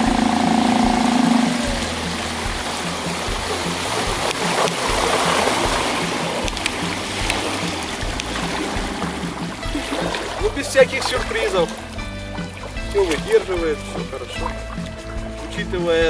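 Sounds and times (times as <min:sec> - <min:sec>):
music with steady beat: 0:00.0 - 0:16.0
outboard motor running: 0:00.0 - 0:16.0
water splashing around hull: 0:00.0 - 0:16.0.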